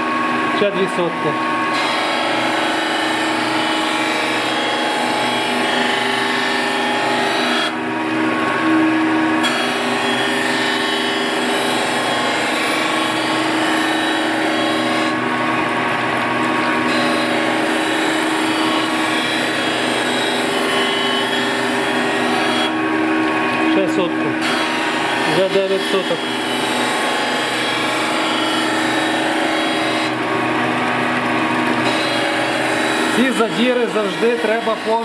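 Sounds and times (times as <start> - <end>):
grinding wheel hum: 0.0 - 35.0.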